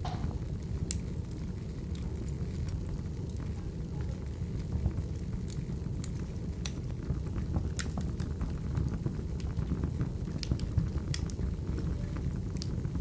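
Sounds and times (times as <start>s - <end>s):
firewood crackling and popping: 0.0s - 13.0s
low rumble of flames: 0.0s - 13.0s.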